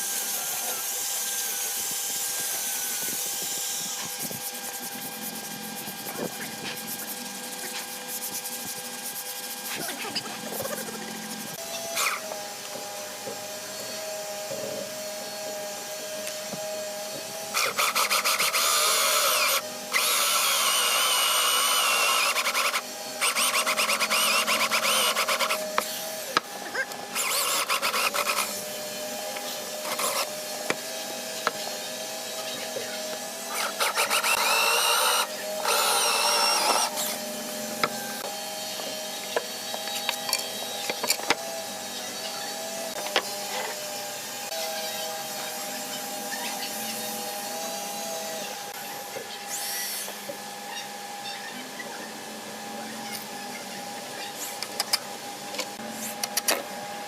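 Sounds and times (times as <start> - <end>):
power tool working wood: 0.0 - 57.0.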